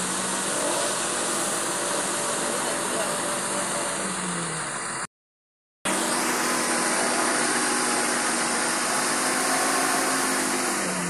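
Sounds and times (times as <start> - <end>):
vehicle engine running: 0.0 - 5.1, 5.9 - 11.0.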